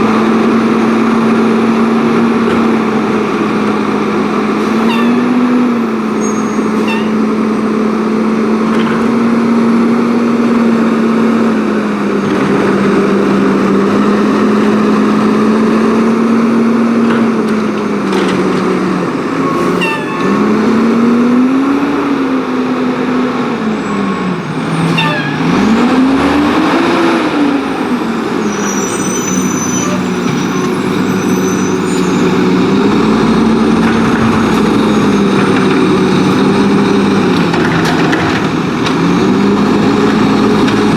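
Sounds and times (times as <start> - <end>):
diesel truck engine revving: 0.0 - 40.9.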